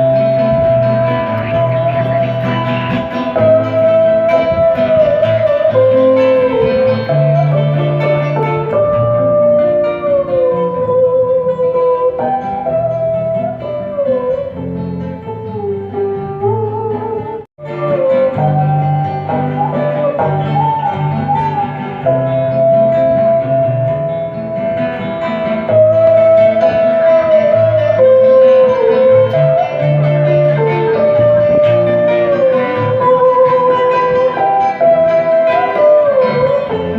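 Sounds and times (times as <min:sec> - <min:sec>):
low accompaniment: 0:00.0 - 0:36.9
plucked string melody: 0:00.0 - 0:36.9.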